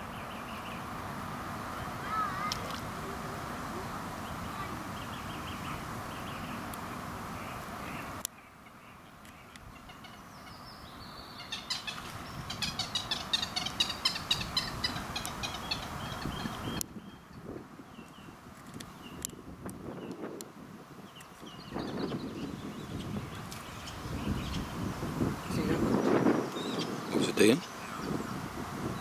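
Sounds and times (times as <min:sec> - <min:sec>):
small birds singing: 0:00.0 - 0:00.9, 0:01.7 - 0:29.0
background noise: 0:00.0 - 0:29.0.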